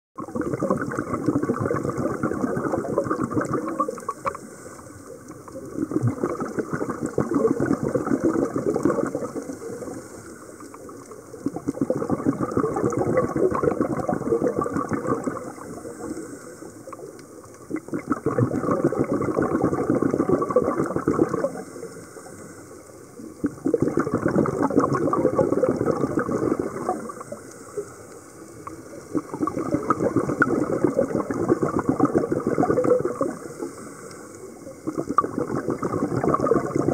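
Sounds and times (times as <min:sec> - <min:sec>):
diver exhaling bubbles underwater: 0:00.2 - 0:21.9, 0:23.2 - 0:27.9, 0:28.6 - 0:36.9.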